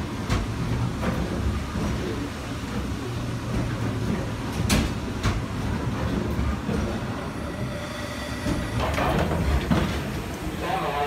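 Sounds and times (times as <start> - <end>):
steam beam engine rumbling: 0.0 - 11.0.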